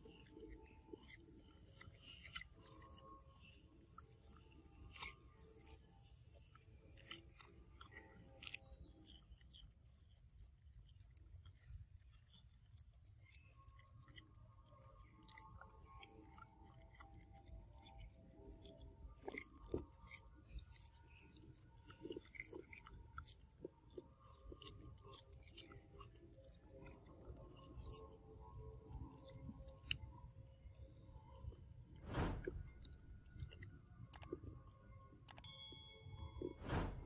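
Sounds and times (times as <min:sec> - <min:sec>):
monkey chewing fruit: 0:00.0 - 0:35.5.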